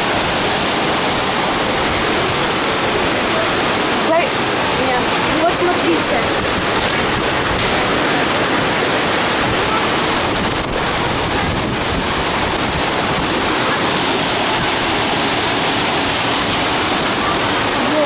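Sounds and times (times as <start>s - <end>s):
rushing falling water: 0.0s - 18.0s.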